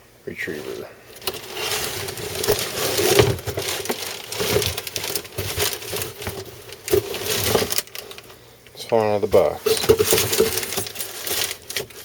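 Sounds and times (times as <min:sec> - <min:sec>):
packaging crinkling and rustling: 0:00.4 - 0:12.0
cardboard box scraping and knocks: 0:00.7 - 0:08.0, 0:09.4 - 0:12.0.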